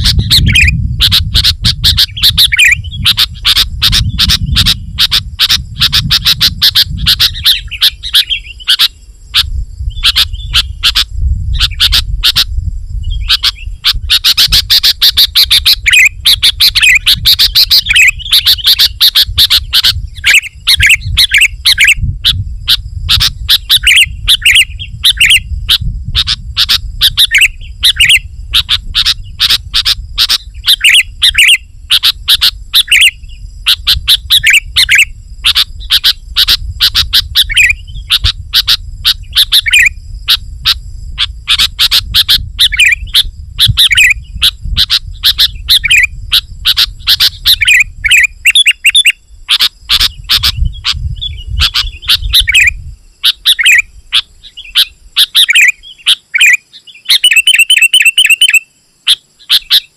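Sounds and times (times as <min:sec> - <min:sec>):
bulbul singing chattering chirps: 0:00.0 - 0:59.9.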